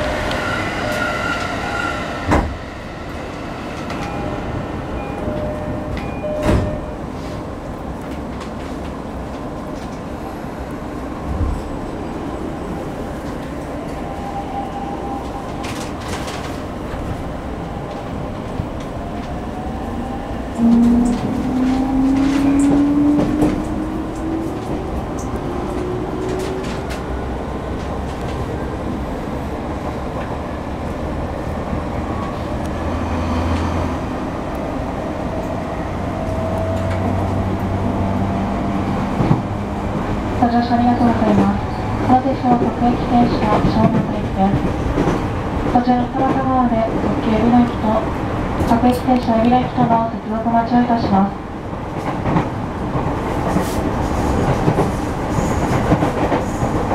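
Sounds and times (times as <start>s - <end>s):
train wheel and rail rumble: 0.0s - 56.9s.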